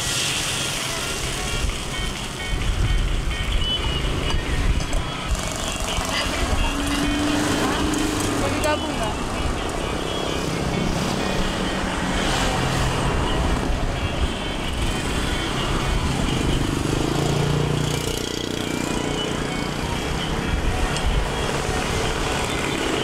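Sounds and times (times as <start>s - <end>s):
rumble of passing vehicles: 0.0s - 23.0s
engine hum: 0.8s - 23.0s.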